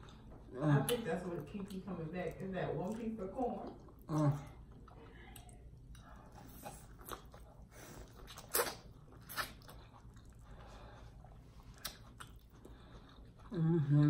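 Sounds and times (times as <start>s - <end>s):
chewing corn on the cob: 0.0s - 14.0s.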